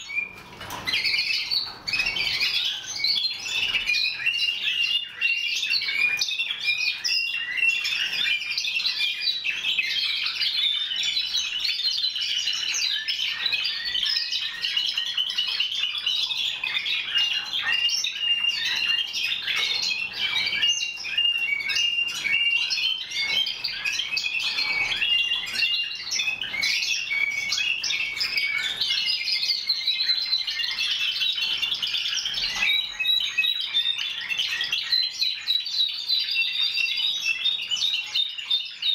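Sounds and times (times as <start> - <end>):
canaries singing trills: 0.0 - 38.9.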